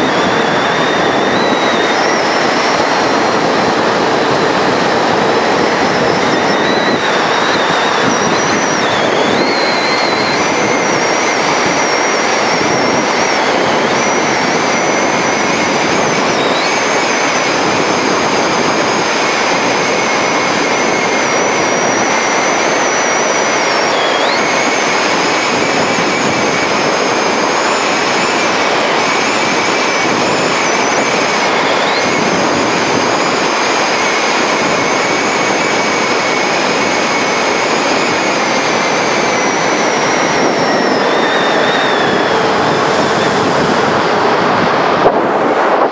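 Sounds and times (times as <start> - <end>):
faint high whistles: 0.0 - 3.1, 5.7 - 43.3
wind rushing over microphone: 0.0 - 45.9.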